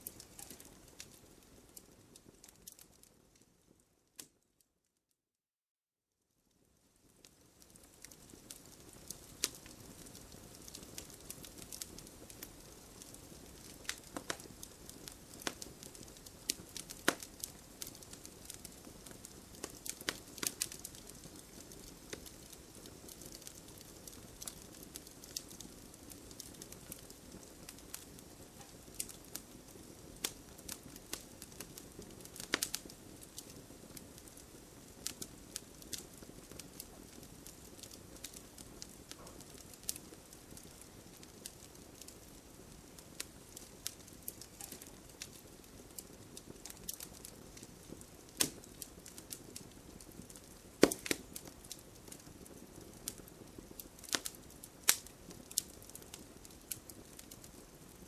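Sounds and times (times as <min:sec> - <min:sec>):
campfire crackling: 0:00.0 - 0:04.4, 0:06.4 - 0:58.0.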